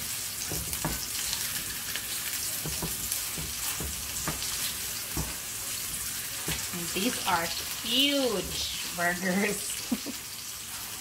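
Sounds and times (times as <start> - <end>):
patties sizzling in oil: 0.0 - 11.0
spatula scraping pan: 0.4 - 9.6.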